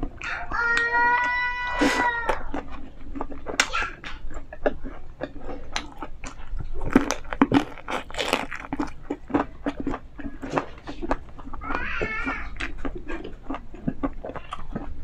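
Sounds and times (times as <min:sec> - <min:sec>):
crunchy chewing of fried chicken: 0:00.0 - 0:15.0.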